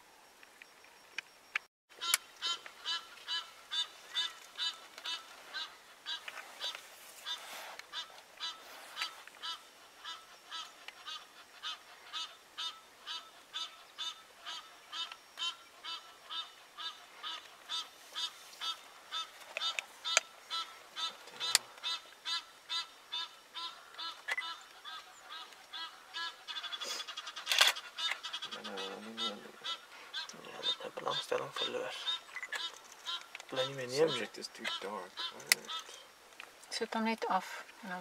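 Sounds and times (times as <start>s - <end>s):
animal short pitched calls: 2.0s - 36.0s
other animal calls: 2.0s - 36.2s.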